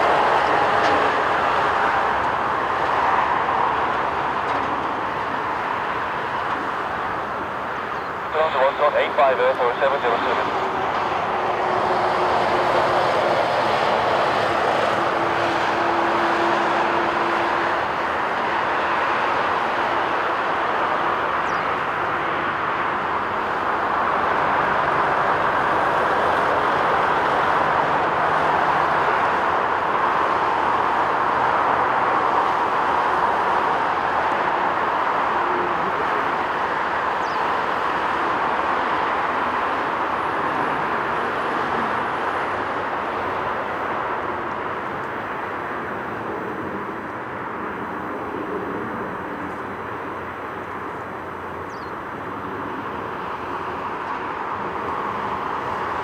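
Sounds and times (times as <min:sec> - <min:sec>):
jet airliner roar: 0:00.0 - 0:56.0.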